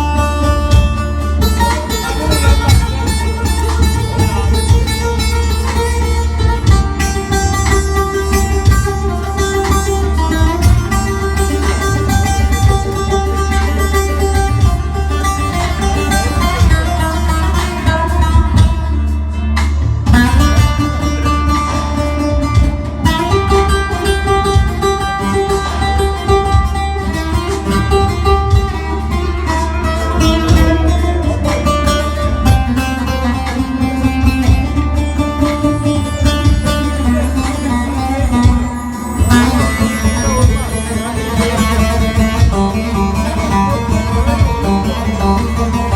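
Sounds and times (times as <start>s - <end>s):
plucked lute melody: 0.0s - 45.9s.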